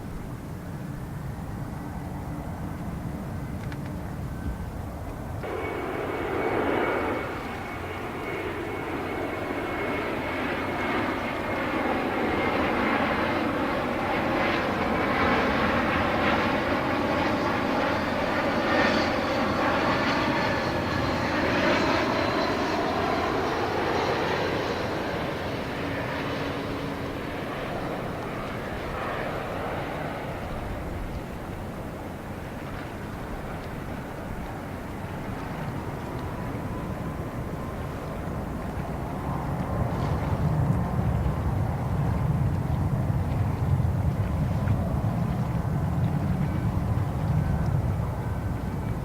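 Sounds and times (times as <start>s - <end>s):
jet airliner passing by: 0.0s - 49.0s.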